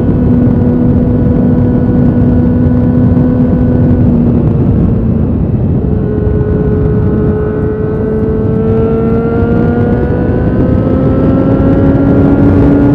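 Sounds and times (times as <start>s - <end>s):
motorcycle engine running: 0.0s - 12.9s
wind rush on microphone: 0.0s - 12.9s.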